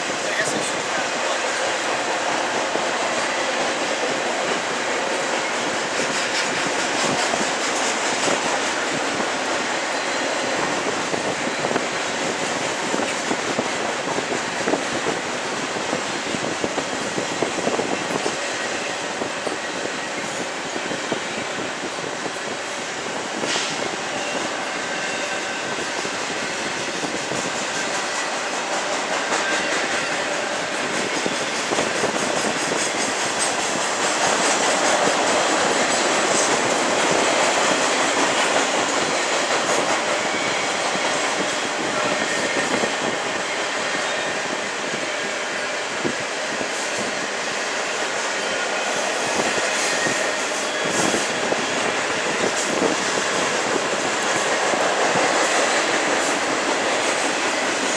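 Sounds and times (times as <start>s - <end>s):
freight train cars rolling by: 0.0s - 57.9s.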